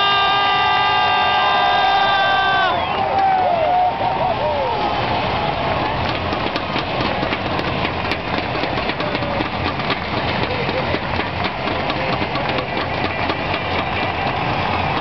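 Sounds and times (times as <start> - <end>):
crowd clapping: 0.0 - 15.0
stadium crowd cheering: 0.0 - 15.0.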